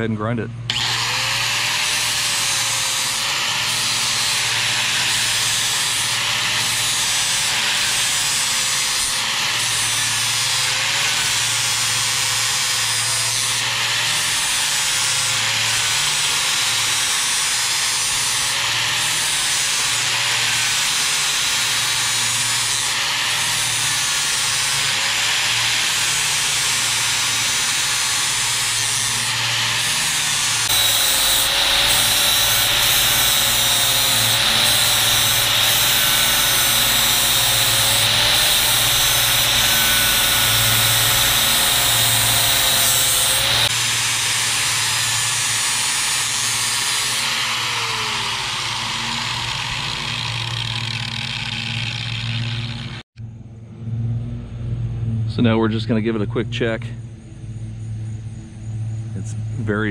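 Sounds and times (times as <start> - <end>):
angle grinder motor whine: 0.6 - 56.0, 57.0 - 59.9.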